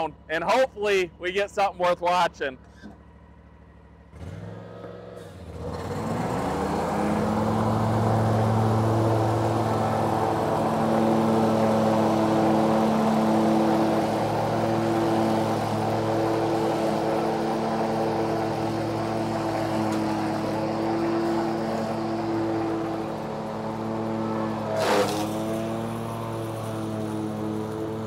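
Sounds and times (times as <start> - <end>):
riding mower engine running: 4.8 - 28.0.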